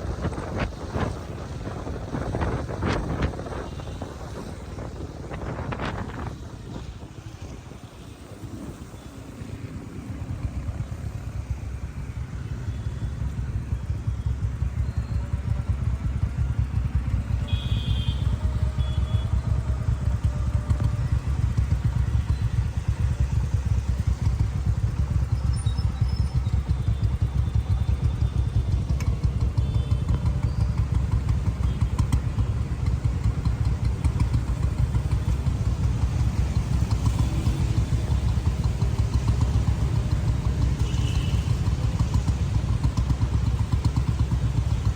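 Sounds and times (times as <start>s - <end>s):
motorcycle engine rumble: 0.0s - 44.9s.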